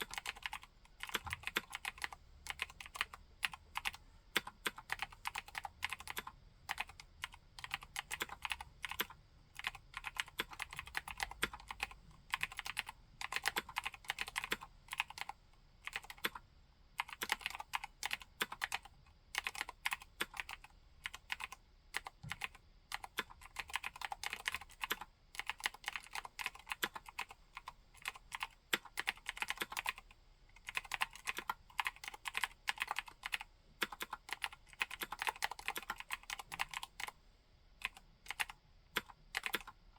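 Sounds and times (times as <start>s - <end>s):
mechanical keyboard typing: 0.0s - 37.2s, 37.8s - 39.8s.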